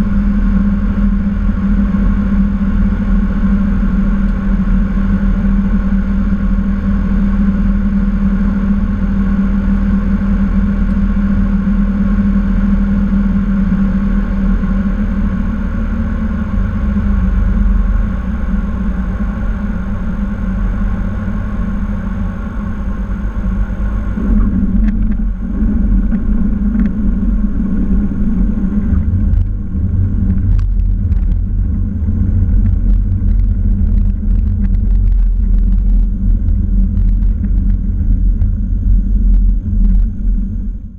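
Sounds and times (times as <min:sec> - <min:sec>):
airplane engine and propeller droning: 0:00.0 - 0:40.9
wheels rumbling on runway: 0:00.0 - 0:40.9.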